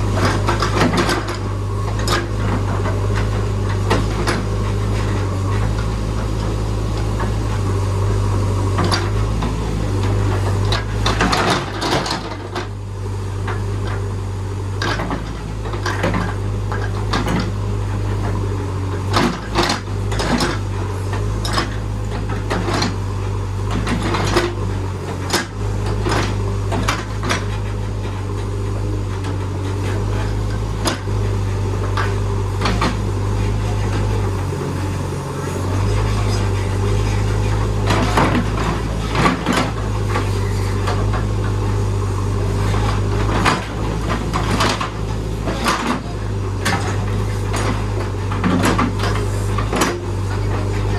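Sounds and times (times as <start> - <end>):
backhoe engine humming: 0.0 - 50.9.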